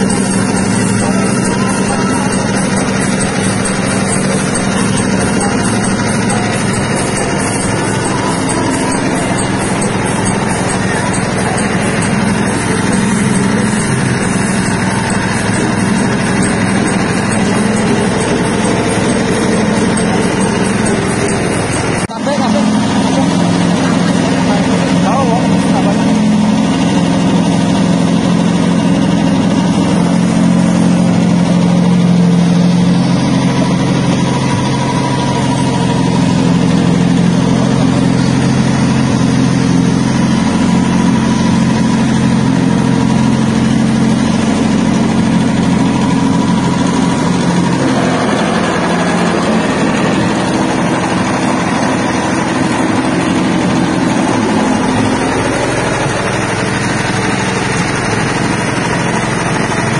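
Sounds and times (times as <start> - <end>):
machine motor hum: 0.0 - 59.9.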